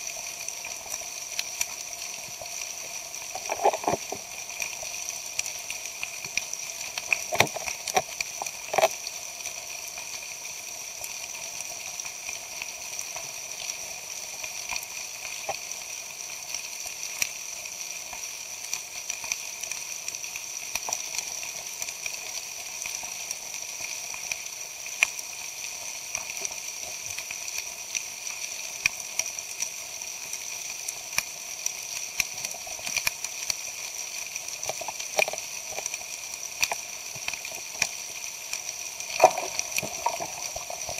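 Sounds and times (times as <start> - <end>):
underwater crackle of small clicks: 0.0 - 40.9.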